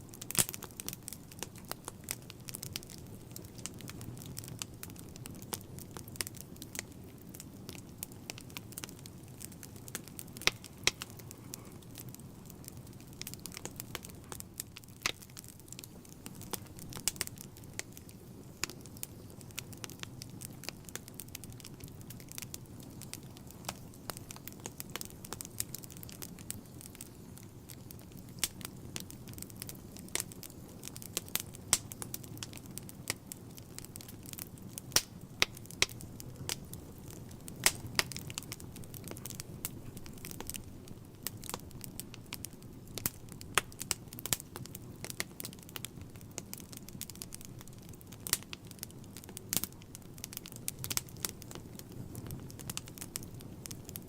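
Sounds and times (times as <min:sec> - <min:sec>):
burning logs crackling and popping: 0:00.0 - 0:54.0
low rumble of flame: 0:00.0 - 0:54.0.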